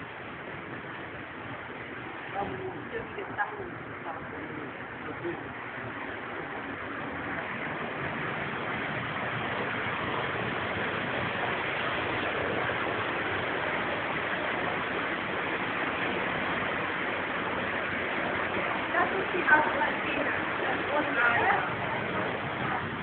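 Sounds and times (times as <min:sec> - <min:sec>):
water rushing over cascades: 0:00.0 - 0:23.0.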